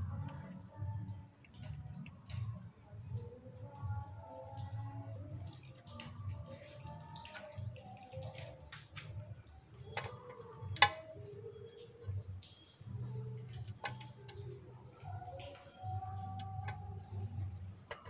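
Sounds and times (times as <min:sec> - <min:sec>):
low steady hum: 0:00.0 - 0:07.0, 0:07.6 - 0:18.0.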